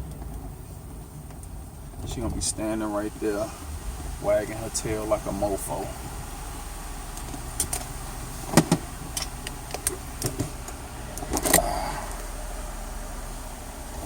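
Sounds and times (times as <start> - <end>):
car engine rumble from inside: 0.0 - 14.0.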